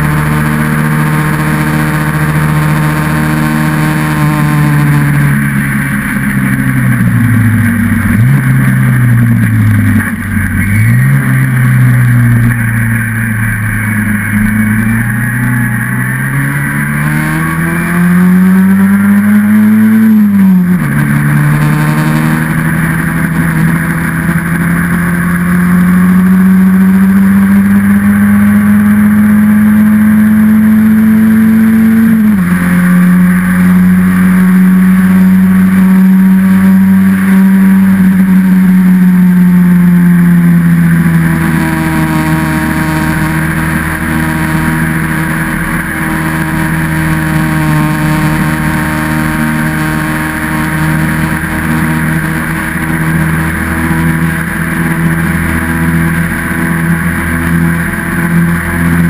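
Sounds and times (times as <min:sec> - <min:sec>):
racing car engine under load: 0:00.0 - 0:59.0.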